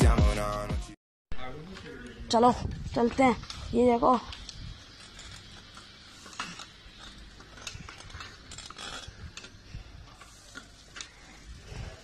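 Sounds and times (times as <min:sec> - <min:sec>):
bicycle clicks and rattles: 0:01.4 - 0:12.0.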